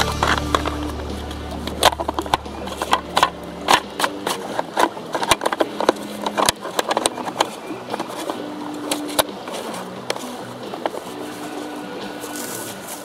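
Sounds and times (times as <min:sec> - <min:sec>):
chainsaw parts clicking when handled: 0:00.0 - 0:11.6
low steady hum: 0:00.0 - 0:13.0.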